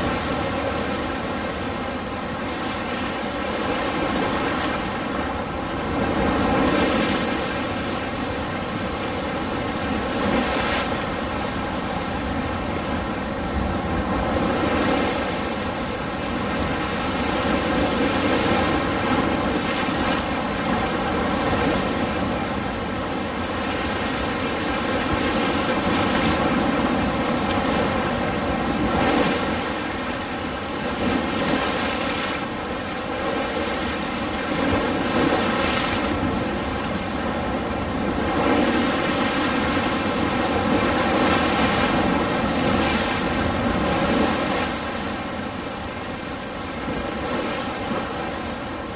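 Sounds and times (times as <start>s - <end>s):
ocean waves breaking: 0.0s - 48.9s.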